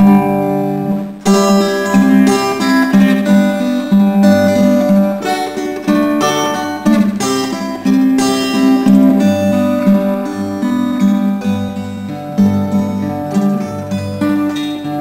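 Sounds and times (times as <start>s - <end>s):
acoustic guitar strumming and plucking: 0.0s - 15.0s.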